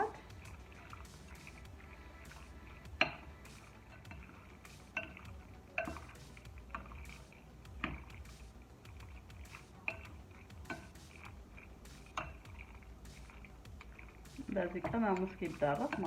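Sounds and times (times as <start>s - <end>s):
utensil clinking against bowl: 0.0s - 16.0s.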